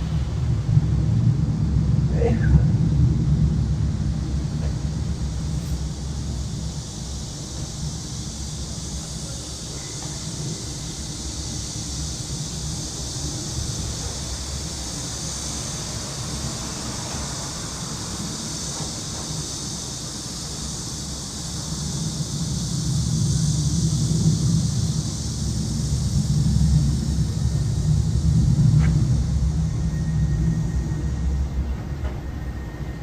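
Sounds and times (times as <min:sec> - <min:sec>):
cicada chorus drone: 0:00.0 - 0:33.0
low rumble of city traffic: 0:00.0 - 0:33.0.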